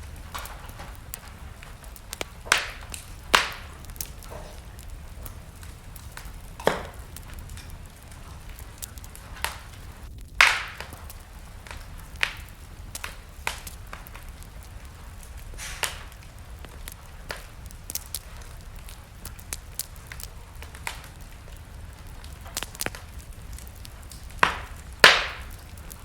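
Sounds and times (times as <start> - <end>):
fire low rumble: 0.0 - 26.0
wood fire crackling: 0.0 - 26.0.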